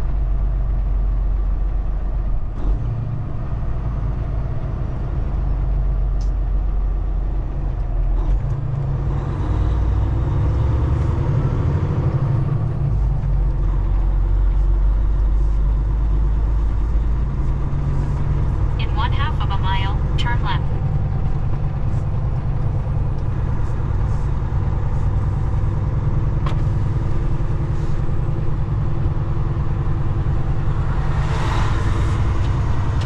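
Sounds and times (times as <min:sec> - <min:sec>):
truck diesel engine rumble: 0:00.0 - 0:33.0.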